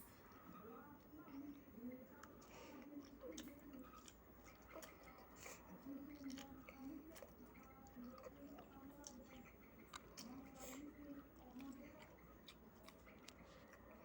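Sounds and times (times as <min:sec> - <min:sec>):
person chewing: 0:02.2 - 0:14.0.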